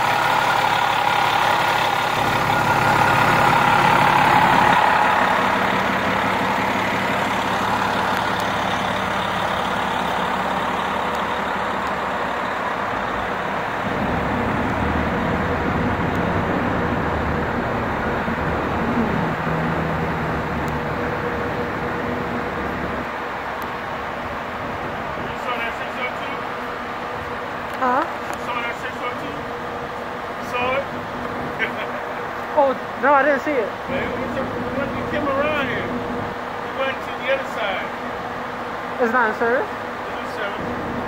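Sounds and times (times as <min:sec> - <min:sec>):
bus engine droning: 0:00.0 - 0:41.0.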